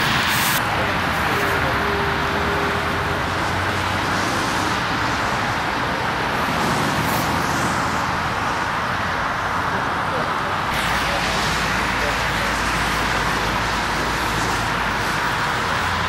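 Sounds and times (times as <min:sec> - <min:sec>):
motorway traffic rushing: 0:00.0 - 0:16.0.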